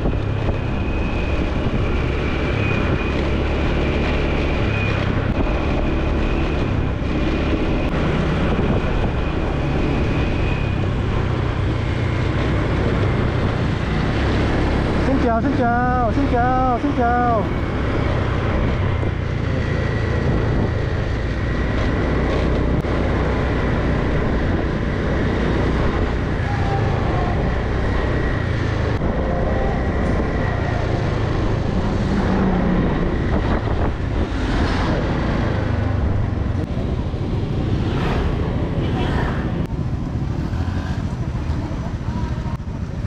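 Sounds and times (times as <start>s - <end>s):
wind buffeting microphone: 0.0s - 15.2s, 17.5s - 40.5s
road noise: 0.0s - 43.0s.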